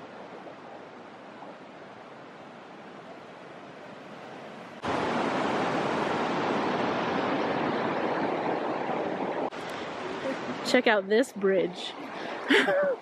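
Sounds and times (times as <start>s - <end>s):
fast river rushing: 0.0s - 13.0s.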